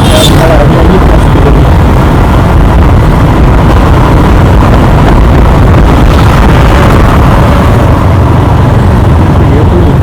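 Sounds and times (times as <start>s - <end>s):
motorcycle engine: 0.0s - 10.0s
road noise: 0.0s - 10.0s
wind buffeting microphone: 0.0s - 10.0s.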